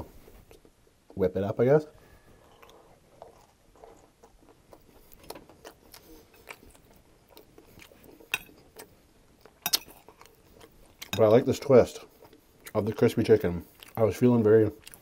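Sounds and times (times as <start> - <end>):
chewing crispy food: 2.3 - 15.0.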